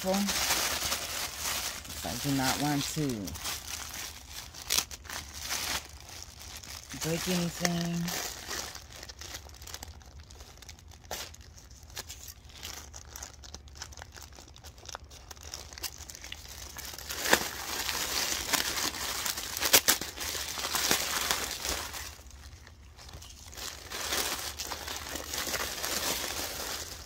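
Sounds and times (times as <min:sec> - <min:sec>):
plastic bag crinkling and tearing: 0:00.0 - 0:27.0.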